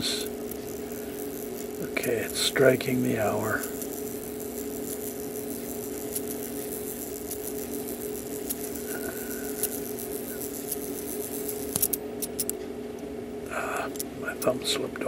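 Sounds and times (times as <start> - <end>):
clock mechanism whirring: 0.0 - 12.6.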